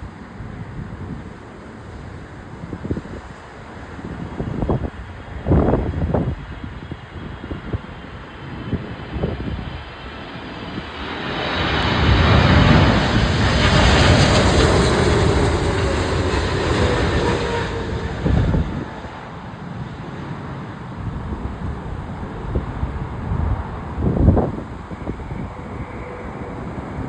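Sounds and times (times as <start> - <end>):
jet airliner passing overhead: 0.0 - 27.0
wind buffeting microphone: 0.0 - 27.0.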